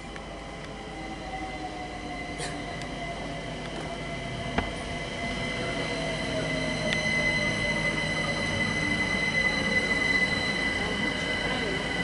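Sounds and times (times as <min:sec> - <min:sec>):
train motor whine: 0:00.0 - 0:12.0
train rumble: 0:00.0 - 0:12.0
high squeal: 0:01.0 - 0:12.0.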